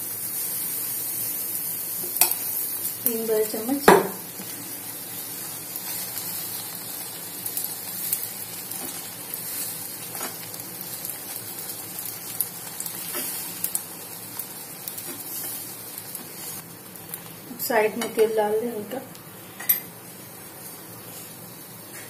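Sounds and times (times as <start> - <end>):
batter sizzling in frying pan: 0.0 - 22.0.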